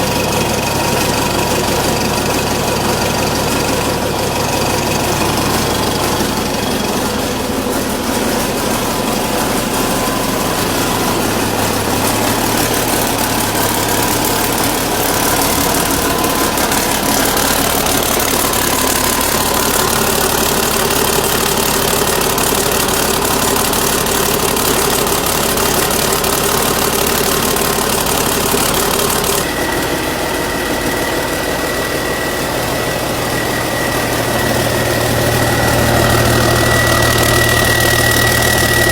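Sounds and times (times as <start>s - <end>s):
diesel engine running: 0.0s - 38.9s
engine hiss: 0.0s - 38.9s
high whistle: 1.0s - 28.7s, 29.4s - 38.9s.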